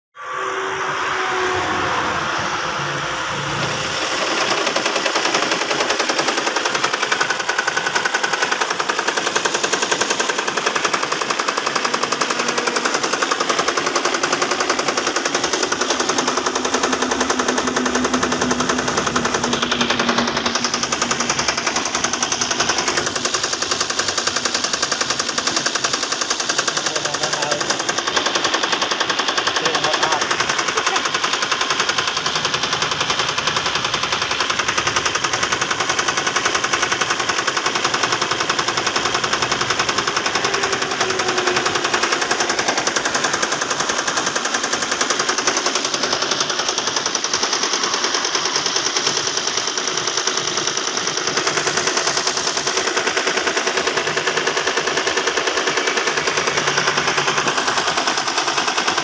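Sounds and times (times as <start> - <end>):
car engine ticking knock: 4.0 - 59.0.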